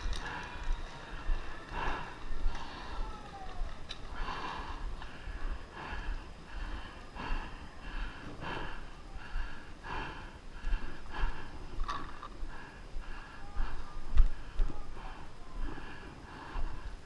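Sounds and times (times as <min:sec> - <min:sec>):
heavy rapid breathing through mask: 0:00.0 - 0:17.0.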